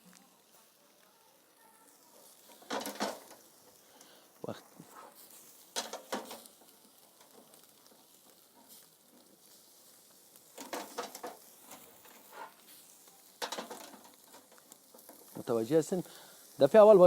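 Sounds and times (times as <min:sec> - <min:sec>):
meat sizzling over charcoal: 0:00.0 - 0:17.0.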